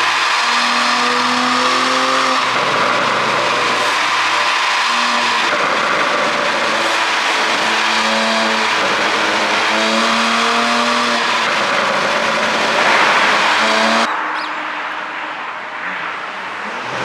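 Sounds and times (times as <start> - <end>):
car engine running: 0.0 - 14.1
rushing road noise: 0.0 - 17.0.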